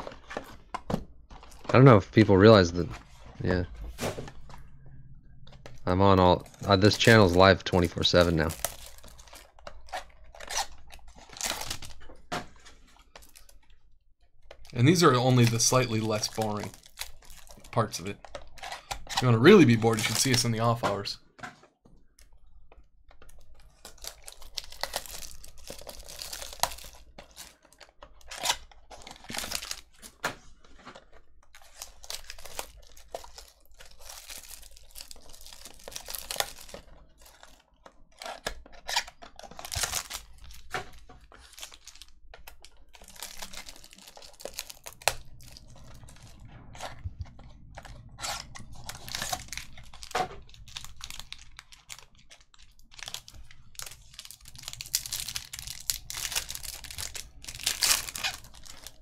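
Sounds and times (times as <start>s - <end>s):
card pack wrappers crinkling and tearing: 5.5s - 13.8s, 14.5s - 21.2s, 23.1s - 59.0s.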